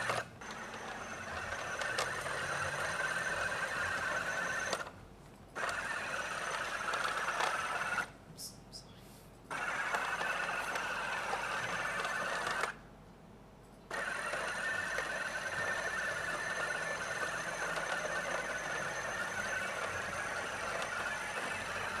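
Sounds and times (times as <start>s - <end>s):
robot vacuum whirring: 0.0s - 4.9s, 5.6s - 8.1s, 9.5s - 12.8s, 13.9s - 22.0s.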